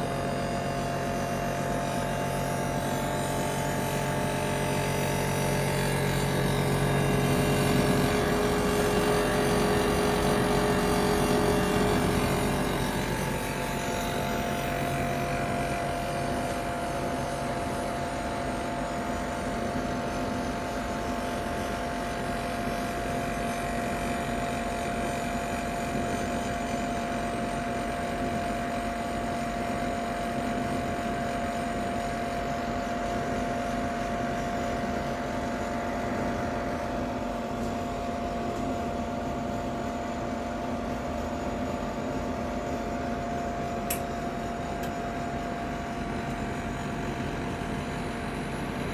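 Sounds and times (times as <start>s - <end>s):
cooker fan humming and whining: 0.0s - 48.9s.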